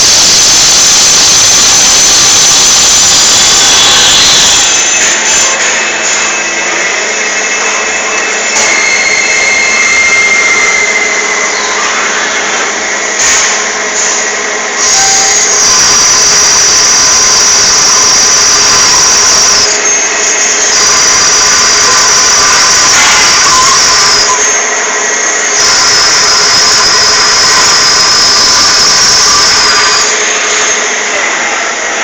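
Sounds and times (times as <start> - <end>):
machine running with high whine: 0.0 - 32.0.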